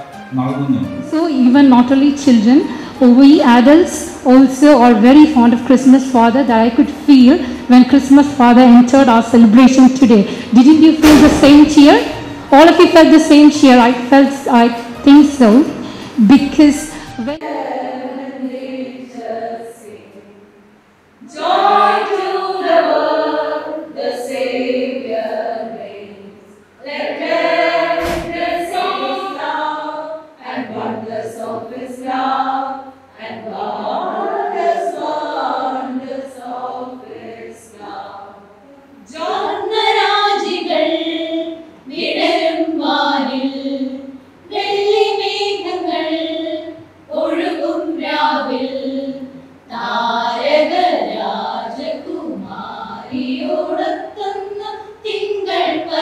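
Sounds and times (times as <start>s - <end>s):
women singing unaccompanied: 1.2s - 56.0s.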